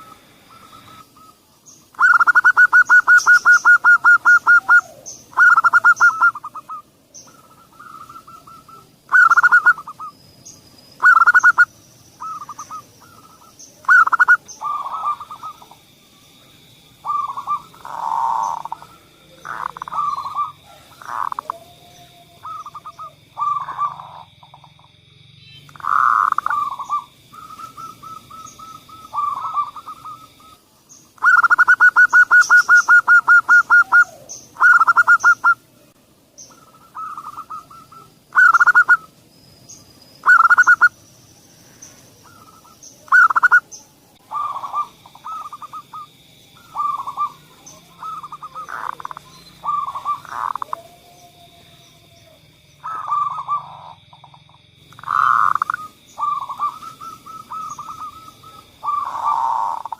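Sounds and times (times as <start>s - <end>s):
doves cooing: 0.0s - 24.9s, 25.6s - 39.2s, 40.2s - 41.0s, 41.6s - 59.9s.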